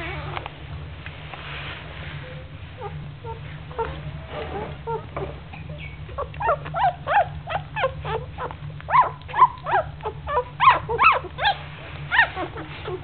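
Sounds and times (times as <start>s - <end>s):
puppies whining: 2.2s - 13.0s.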